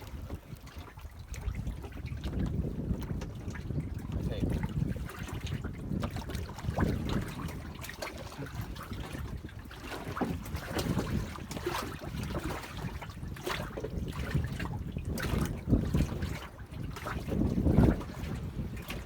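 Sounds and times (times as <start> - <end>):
water splashing against boat hull: 0.0 - 19.0
wind buffeting microphone: 0.0 - 19.0.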